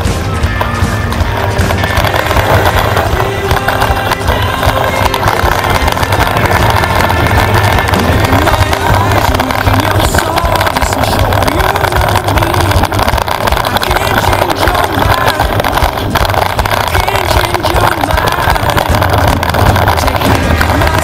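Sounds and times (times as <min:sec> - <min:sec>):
mountain bike rattle and rumble: 0:00.0 - 0:21.0
wind buffeting microphone: 0:00.0 - 0:21.0.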